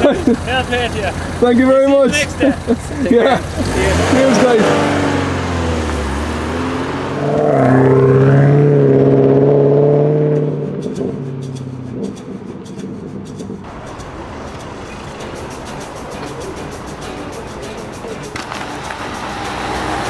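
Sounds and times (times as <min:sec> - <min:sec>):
car engine revving and pulling away: 0:00.0 - 0:20.0.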